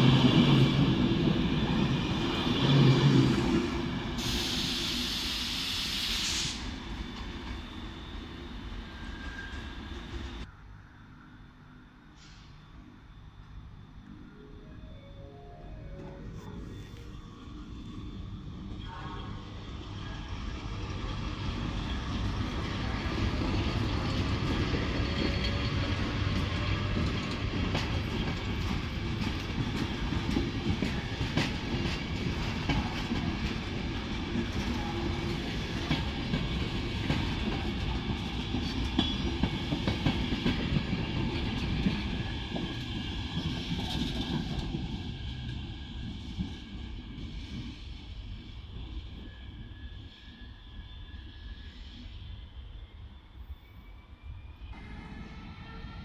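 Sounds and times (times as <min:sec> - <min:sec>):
rumble of rolling train coaches: 0:00.0 - 0:56.0.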